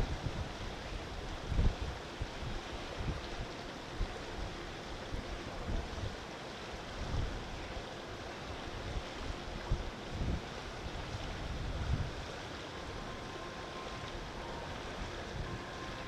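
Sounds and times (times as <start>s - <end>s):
wind buffeting microphone: 0.0s - 6.2s, 8.8s - 16.0s.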